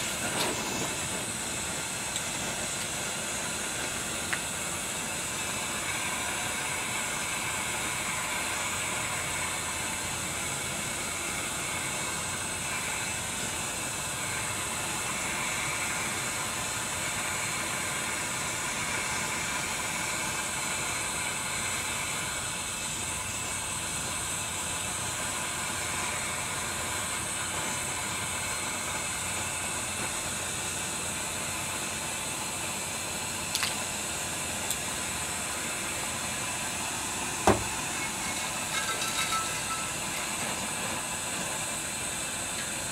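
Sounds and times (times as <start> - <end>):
pressure burner hissing: 0.0 - 42.9.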